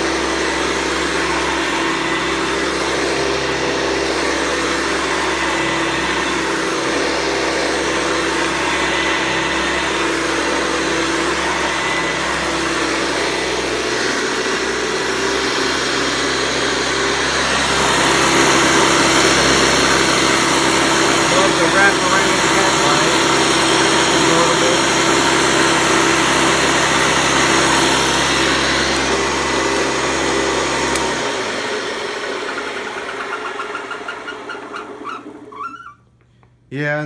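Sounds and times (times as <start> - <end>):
upright vacuum cleaner running: 0.0 - 36.0.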